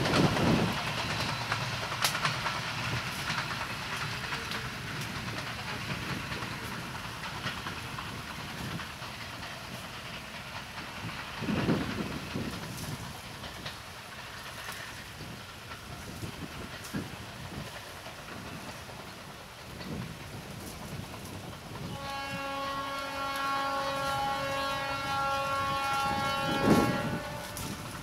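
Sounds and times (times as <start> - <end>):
train rumble: 0.0 - 28.0
train wheels clicking on rails: 0.0 - 28.0.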